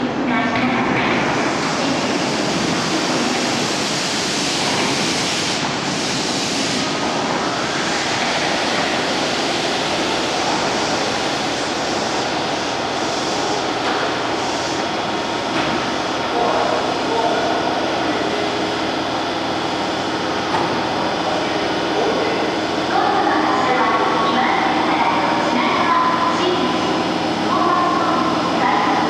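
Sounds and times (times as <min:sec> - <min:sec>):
rushing noise of train station: 0:00.0 - 0:29.0.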